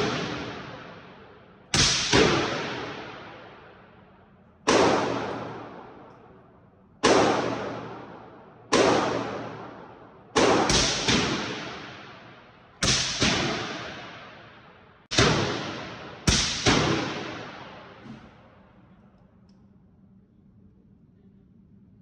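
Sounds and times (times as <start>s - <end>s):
suppressed gunshots echoing: 0.0s - 18.8s.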